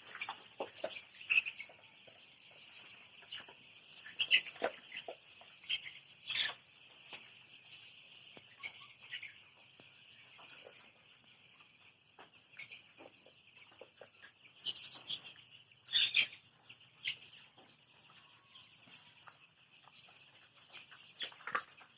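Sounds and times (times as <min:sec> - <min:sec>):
chickens chirping and peeping: 0:00.0 - 0:21.9.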